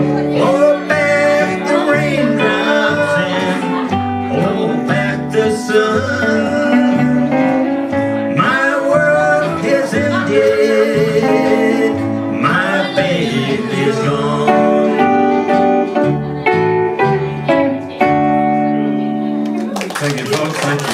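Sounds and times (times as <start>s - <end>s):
upright double bass: 0.0s - 19.4s
acoustic guitar: 0.0s - 20.9s
electric guitar melody: 0.0s - 20.9s.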